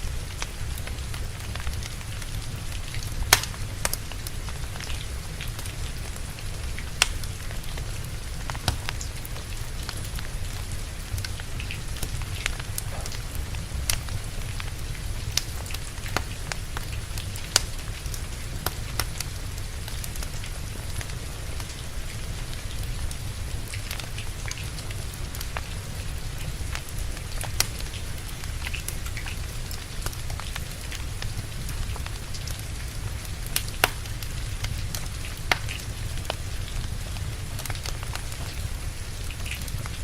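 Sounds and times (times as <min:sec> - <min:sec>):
steady rain: 0:00.0 - 0:40.0
wood fire crackling and popping: 0:00.0 - 0:40.0.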